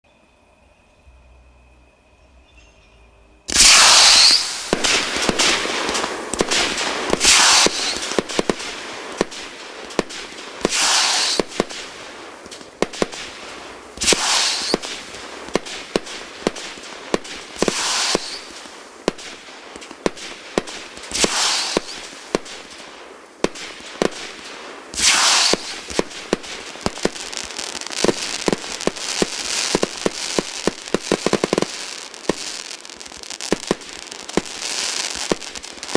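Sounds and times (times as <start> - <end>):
fireworks bursts: 3.5 - 35.9
fireworks crackling: 3.5 - 35.9.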